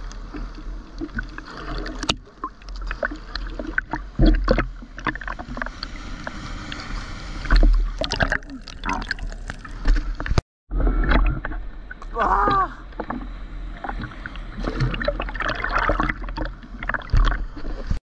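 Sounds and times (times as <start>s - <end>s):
sea water sloshing and splashing: 0.0s - 18.0s
underwater sound: 0.0s - 18.0s.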